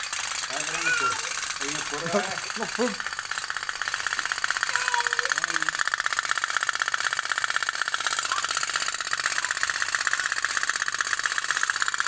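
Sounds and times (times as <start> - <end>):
pop-pop boat rattling: 0.0 - 12.0.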